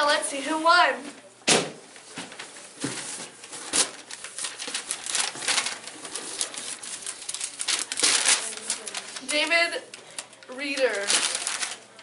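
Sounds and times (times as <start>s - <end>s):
paper slips rustling: 2.3s - 12.0s.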